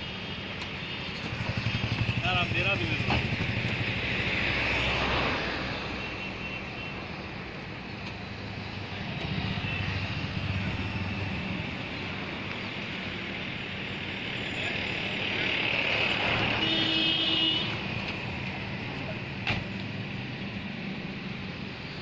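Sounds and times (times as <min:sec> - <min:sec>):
vehicle engines humming: 0:00.0 - 0:22.0.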